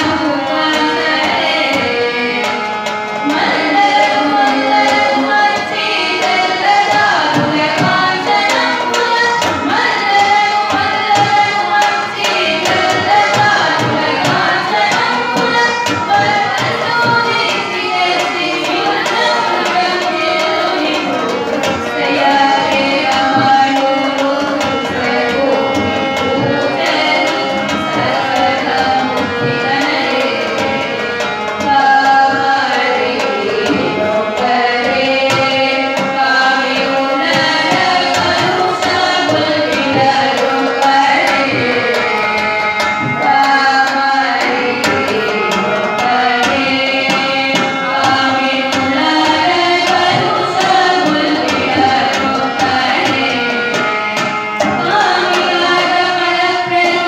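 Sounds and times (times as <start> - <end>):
women singing along: 0.0 - 57.0
hand drum: 3.2 - 57.0.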